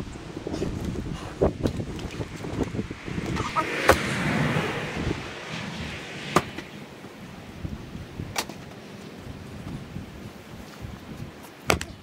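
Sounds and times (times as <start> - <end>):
wind hiss: 0.0 - 11.7.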